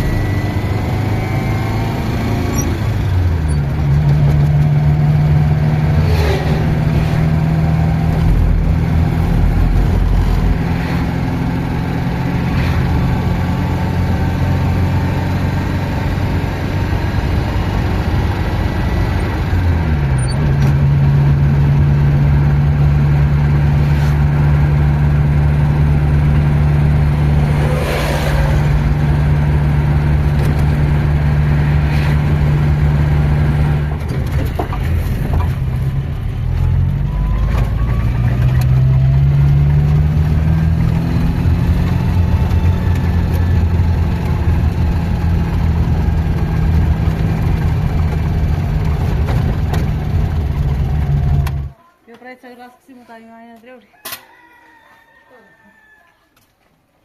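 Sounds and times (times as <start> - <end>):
engine running with low hum: 0.0 - 51.8.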